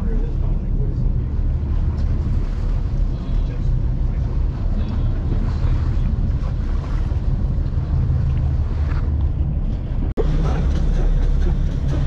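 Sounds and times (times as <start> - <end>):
low boat rumble: 0.0 - 12.0
wind buffeting microphone: 0.0 - 12.0.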